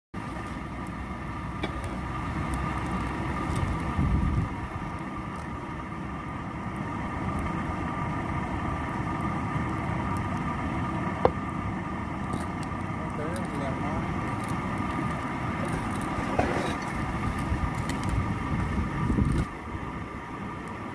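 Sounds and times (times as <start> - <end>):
faint mechanical hum: 0.2 - 20.9
forge fire rushing burn: 0.2 - 20.9
low rumble: 0.2 - 20.9.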